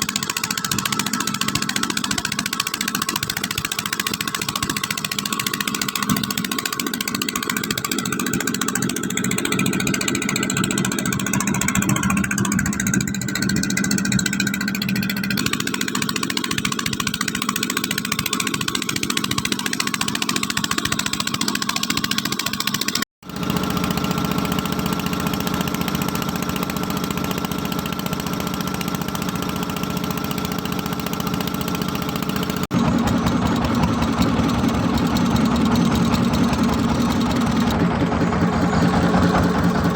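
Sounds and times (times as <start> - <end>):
motor engine running: 0.0 - 39.9.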